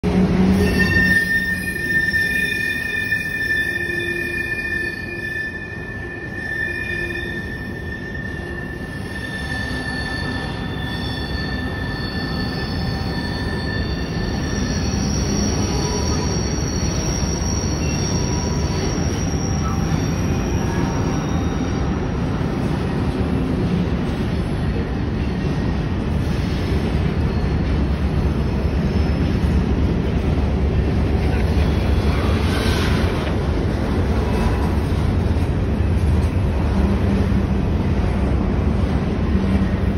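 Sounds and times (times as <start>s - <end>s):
train rolling rumble: 0.0s - 39.9s
train wheels squealing: 0.5s - 38.2s.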